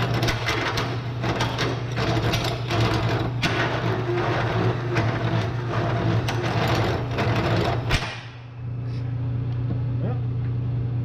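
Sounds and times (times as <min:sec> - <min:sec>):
milling machine motor hum: 0:00.0 - 0:11.0.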